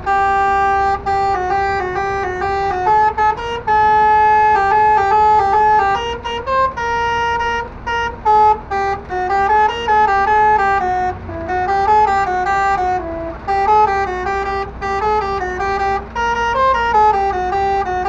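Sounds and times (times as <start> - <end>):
musical air horn tune: 0.0 - 18.0.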